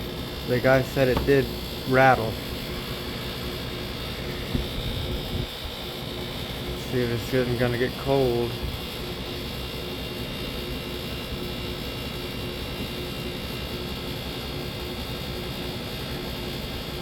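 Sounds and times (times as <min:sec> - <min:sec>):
air conditioner fan blowing: 0:00.0 - 0:17.0
compressor hum: 0:00.0 - 0:17.0.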